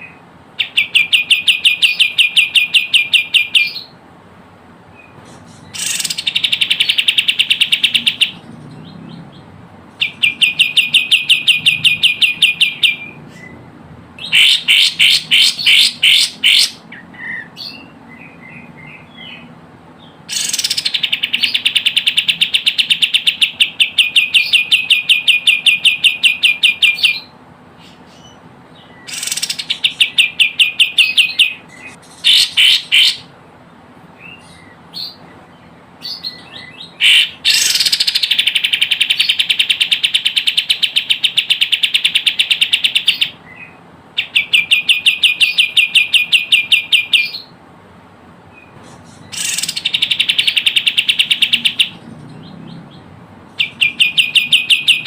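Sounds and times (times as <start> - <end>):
bird chattering trills: 0.0 - 4.0, 5.0 - 13.6, 14.2 - 33.4, 34.1 - 47.6, 48.6 - 55.0.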